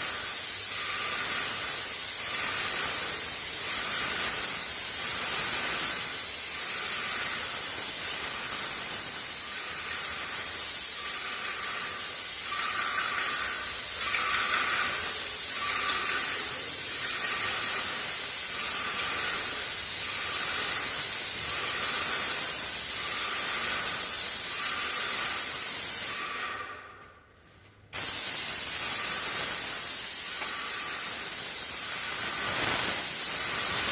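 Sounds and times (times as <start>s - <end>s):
paint sprayer hissing: 0.0s - 27.2s, 27.9s - 33.9s.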